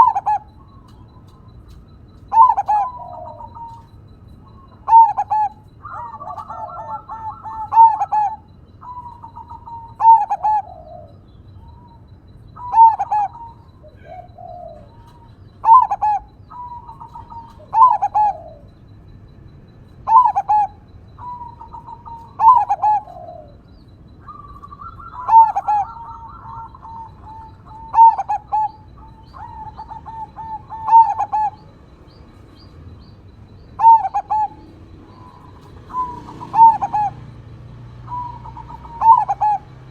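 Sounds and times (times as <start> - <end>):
birds chirping faintly: 0.0 - 39.9
dove cooing: 0.0 - 39.9.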